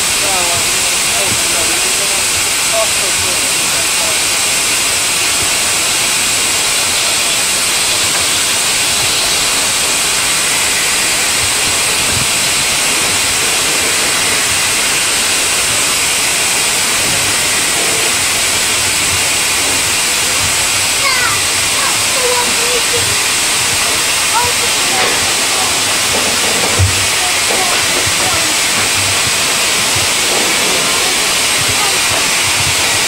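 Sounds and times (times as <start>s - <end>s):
steam locomotive hissing: 0.0s - 33.0s.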